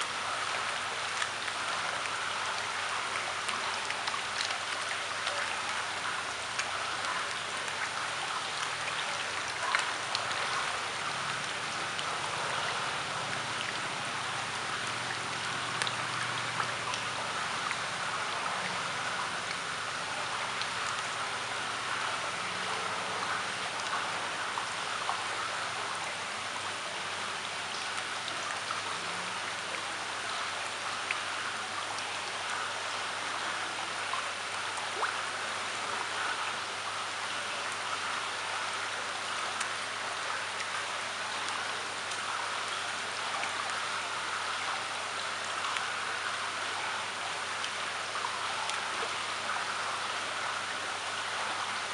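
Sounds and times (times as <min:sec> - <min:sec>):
small drips and plops: 0:00.0 - 0:51.9
water pattering on pond: 0:00.0 - 0:51.9.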